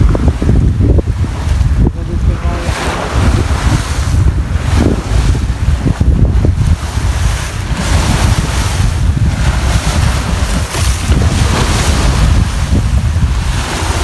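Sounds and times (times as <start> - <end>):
choppy sea rushing along hull: 0.0 - 14.0
wind buffeting microphone: 0.0 - 14.0.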